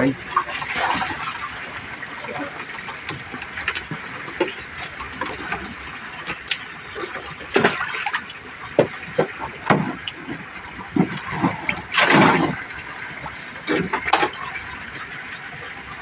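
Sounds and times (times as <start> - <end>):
water splashing in tubs: 0.0 - 16.0.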